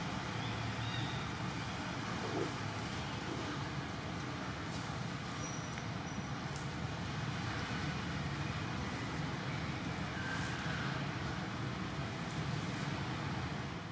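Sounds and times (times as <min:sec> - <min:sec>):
low rumbling background noise: 0:00.0 - 0:13.9.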